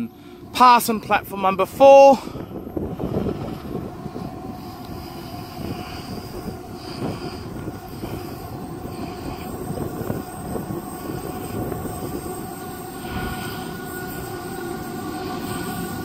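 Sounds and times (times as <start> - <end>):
diesel locomotive drone: 0.0 - 16.0.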